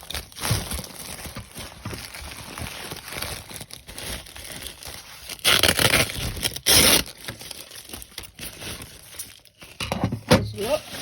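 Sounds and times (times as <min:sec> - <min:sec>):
bubble wrap crinkling: 0:00.0 - 0:09.8, 0:10.5 - 0:11.0
bubble wrap tearing: 0:00.0 - 0:09.8, 0:10.5 - 0:11.0.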